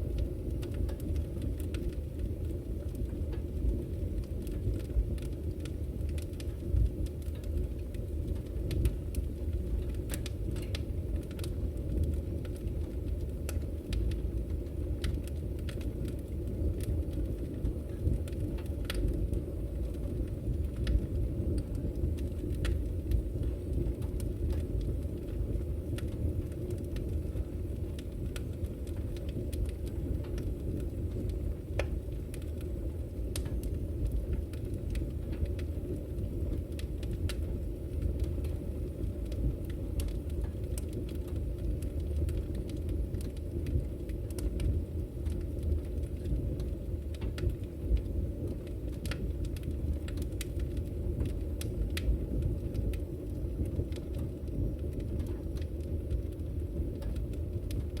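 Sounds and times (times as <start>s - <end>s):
firewood popping: 0.0s - 58.0s
wood fire crackling: 0.0s - 58.0s.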